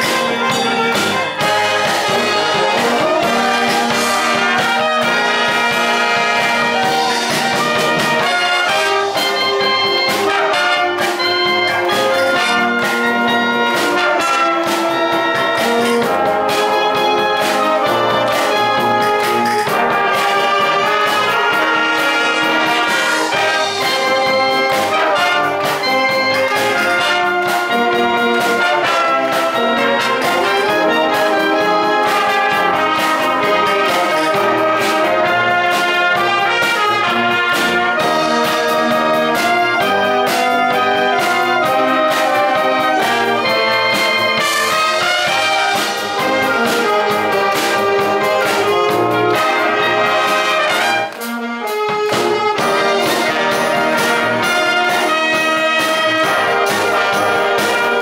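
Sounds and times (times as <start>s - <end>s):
wind band playing: 0.0s - 58.0s.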